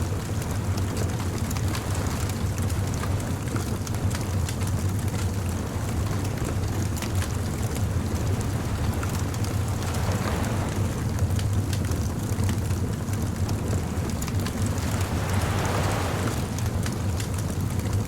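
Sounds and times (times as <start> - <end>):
low fire rumble: 0.0 - 18.0
bonfire crackling and popping: 0.1 - 18.0.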